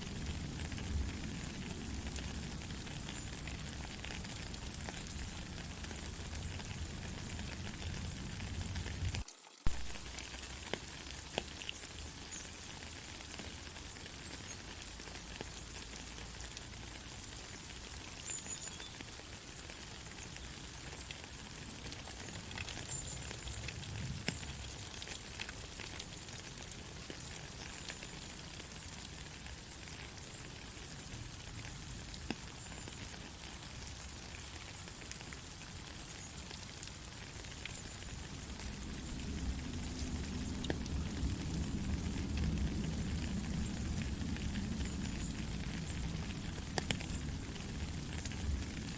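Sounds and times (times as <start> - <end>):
raindrops tapping surfaces: 0.0 - 48.9
steady rain hiss: 0.0 - 48.9.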